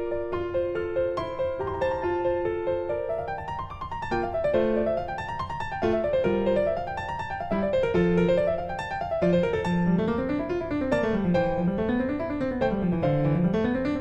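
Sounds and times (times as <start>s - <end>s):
piano runs: 0.0s - 14.0s.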